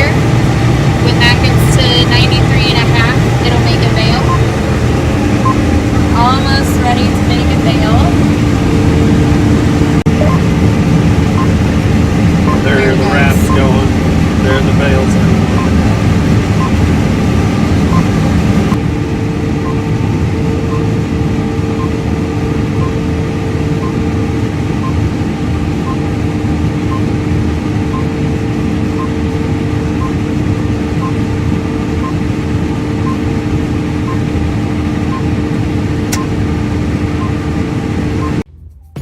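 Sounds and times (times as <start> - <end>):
cotton harvester droning: 0.0 - 38.5.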